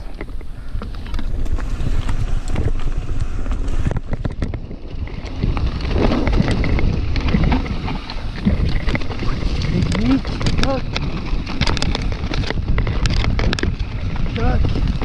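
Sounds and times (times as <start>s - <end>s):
bike knocks and rattles: 0.0s - 15.0s
bike tyres rumbling on dirt: 0.0s - 15.0s
wind buffeting microphone: 0.0s - 15.0s.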